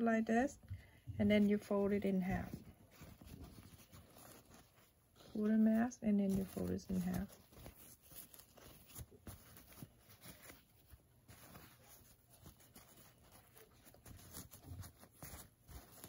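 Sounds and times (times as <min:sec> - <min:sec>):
fabric mask rustling: 0:00.0 - 0:16.0.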